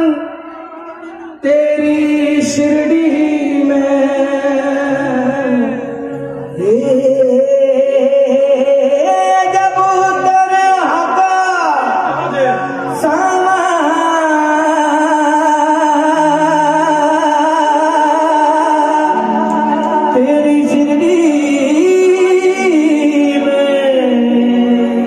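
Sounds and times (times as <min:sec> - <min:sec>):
man singing devotional song: 0:00.0 - 0:25.0.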